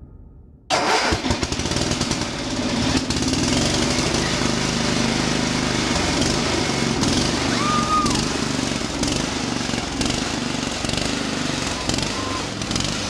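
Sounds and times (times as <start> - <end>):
heavy machine engine running: 0.7 - 13.0.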